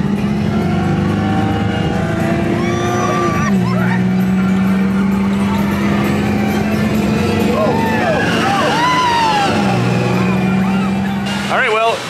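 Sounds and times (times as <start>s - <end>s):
ride vehicle mechanical hum: 0.0s - 12.0s.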